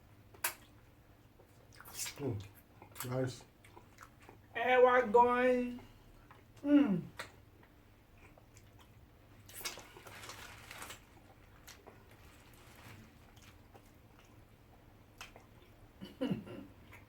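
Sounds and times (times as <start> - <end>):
soft chewing: 0.0 - 4.6, 5.8 - 17.0.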